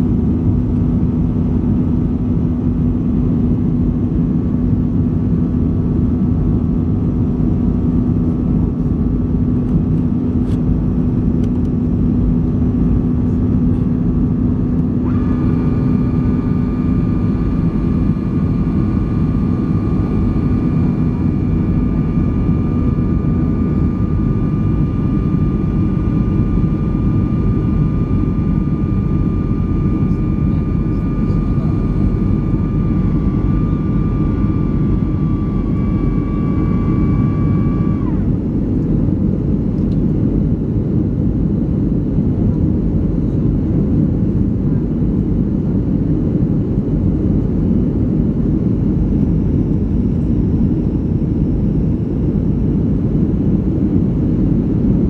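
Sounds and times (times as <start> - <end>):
airplane cabin engine roar: 0.0 - 55.0
low hum: 0.0 - 55.0
steady high whine: 0.0 - 55.0.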